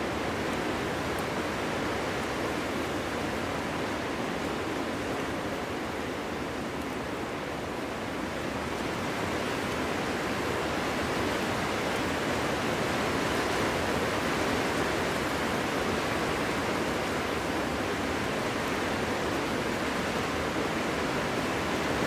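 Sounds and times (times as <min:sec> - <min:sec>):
wind blowing through forest: 0:00.0 - 0:22.0.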